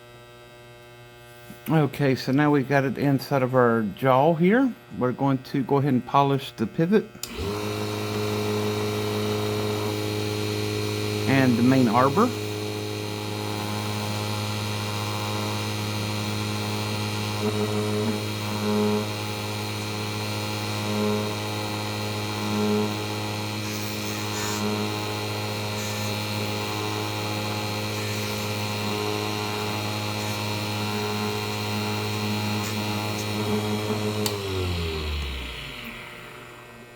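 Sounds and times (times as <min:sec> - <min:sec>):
small lathe motor humming: 0:07.2 - 0:36.9.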